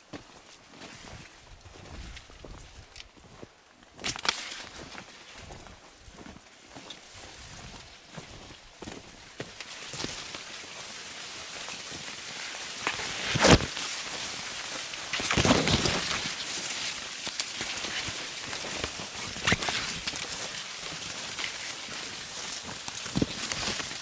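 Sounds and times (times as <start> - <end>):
corn leaves rustling: 0.0 - 24.0
footsteps: 0.0 - 24.0.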